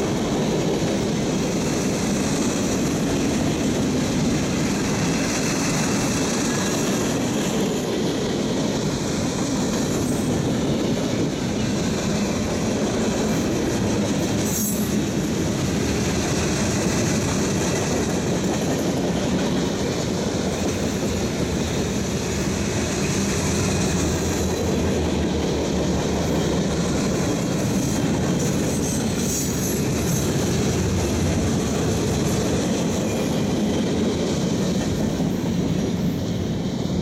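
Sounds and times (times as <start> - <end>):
freight train wheels clattering: 0.0 - 37.0.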